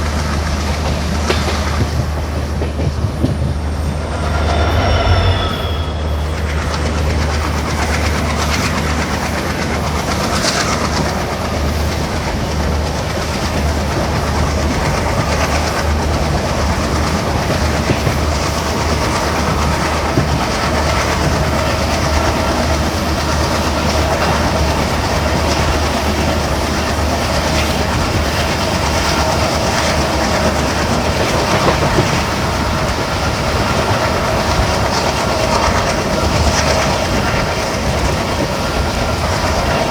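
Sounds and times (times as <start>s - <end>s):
clickety-clack over rail joints: 0.0s - 3.8s, 7.8s - 39.9s
train wheels rumbling on rails: 0.0s - 39.9s.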